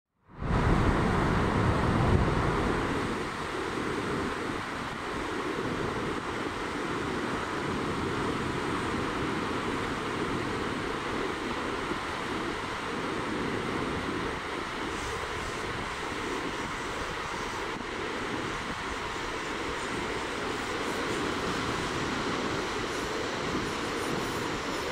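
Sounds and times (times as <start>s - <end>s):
ocean surf breaking: 0.4s - 24.9s.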